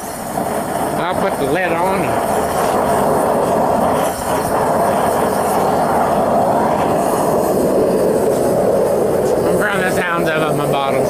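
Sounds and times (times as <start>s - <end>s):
furnace burner roaring: 0.0s - 11.0s.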